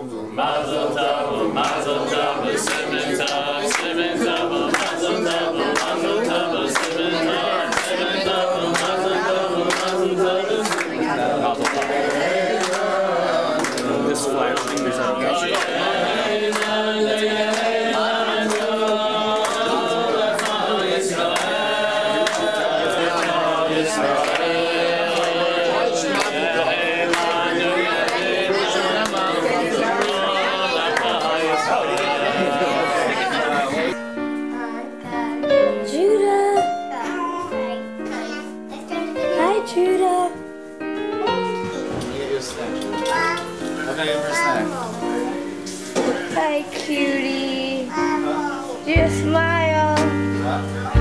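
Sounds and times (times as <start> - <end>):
voices singing over a beat: 0.0 - 34.3, 43.0 - 51.0.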